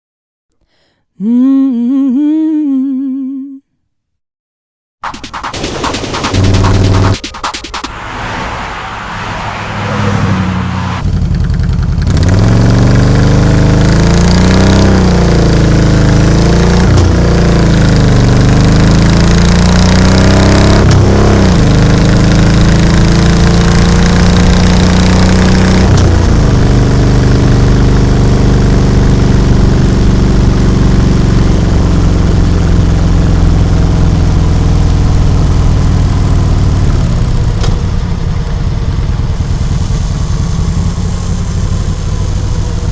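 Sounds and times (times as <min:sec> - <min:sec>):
motorcycle engine and exhaust: 0:07.9 - 0:42.9.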